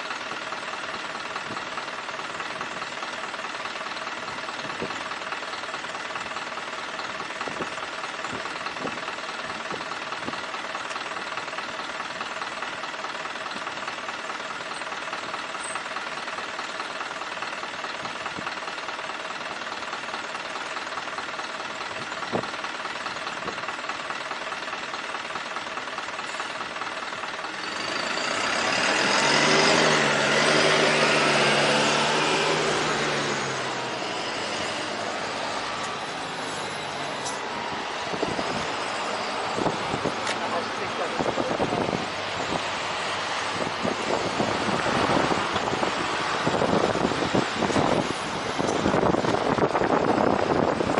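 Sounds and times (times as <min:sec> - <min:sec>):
loud engine close by: 0:00.0 - 0:50.9
vehicle engine running: 0:00.0 - 0:50.9.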